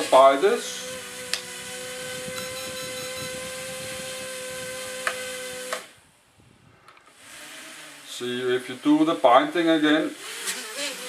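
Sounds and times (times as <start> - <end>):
quadcopter motors whining: 0.0 - 6.1, 6.9 - 11.0.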